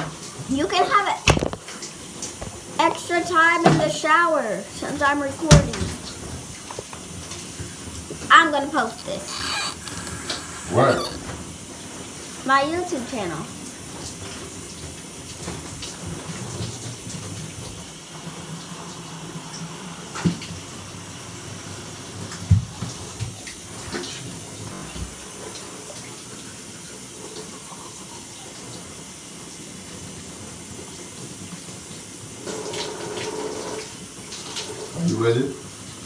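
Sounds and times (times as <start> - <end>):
shower running: 0.0 - 36.0.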